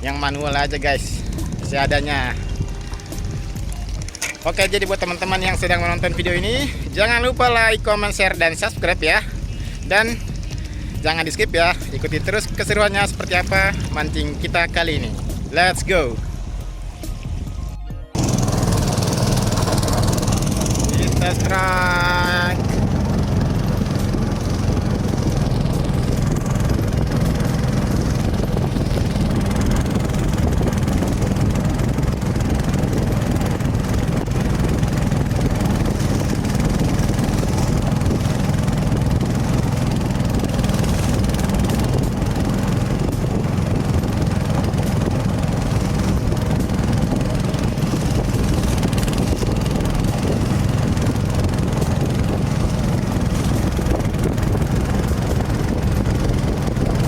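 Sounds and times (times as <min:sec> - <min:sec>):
boat outboard engine running: 0:00.0 - 0:57.0.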